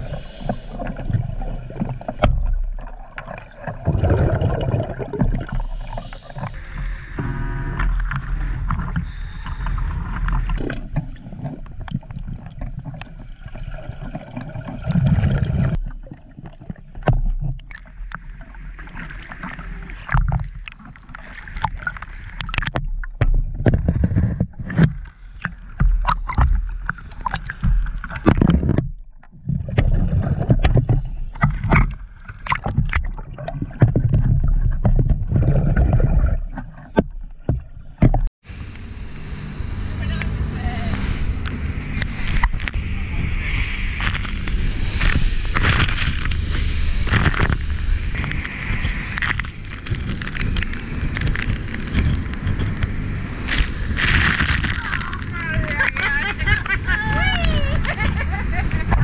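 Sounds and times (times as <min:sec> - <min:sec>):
sea water sloshing and lapping: 0:00.0 - 0:59.0
underwater gurgling and bubbling: 0:00.0 - 0:59.0.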